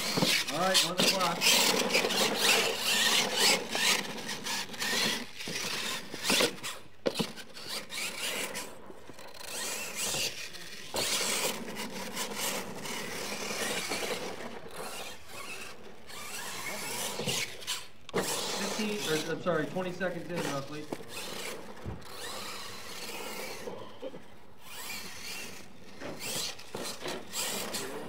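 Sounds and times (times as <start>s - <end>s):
toy truck motor whirring: 0.0s - 28.0s.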